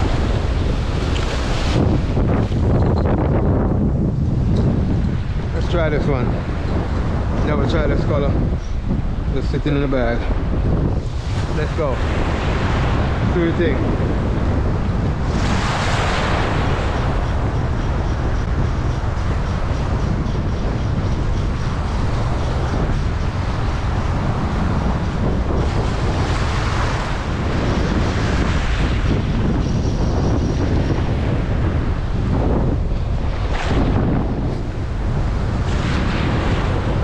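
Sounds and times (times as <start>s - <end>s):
choppy sea waves washing in: 0.0s - 37.0s
wind buffeting the microphone: 0.0s - 37.0s.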